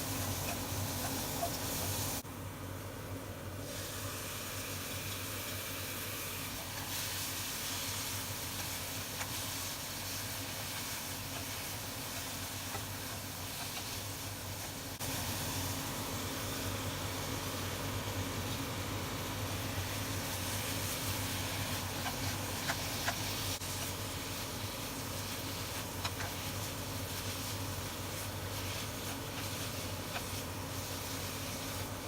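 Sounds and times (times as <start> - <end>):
food sizzling in a frying pan: 0.0 - 2.3, 3.5 - 32.0.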